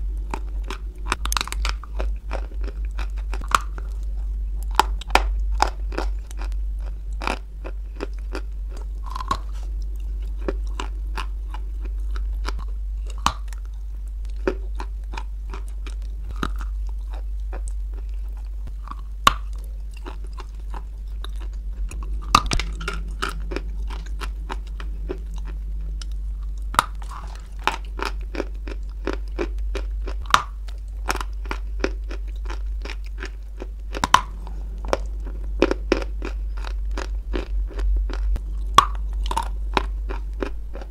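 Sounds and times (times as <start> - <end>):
crunchy chewing: 0.0 - 40.9
steady low hum: 0.0 - 40.9.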